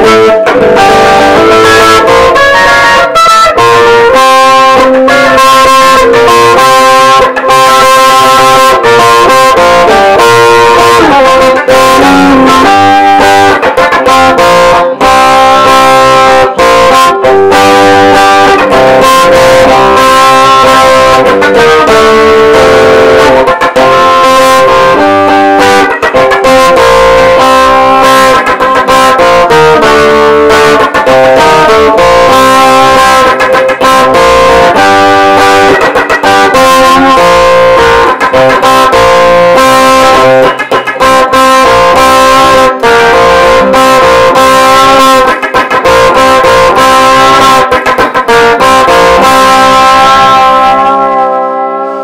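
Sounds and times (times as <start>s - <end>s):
electric guitar rock instrumental: 0.0s - 52.0s.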